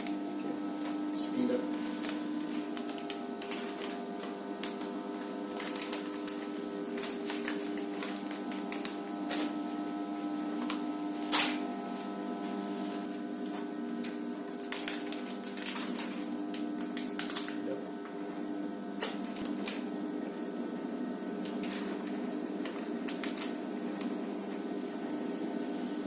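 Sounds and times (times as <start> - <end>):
motor humming: 0.0 - 25.4.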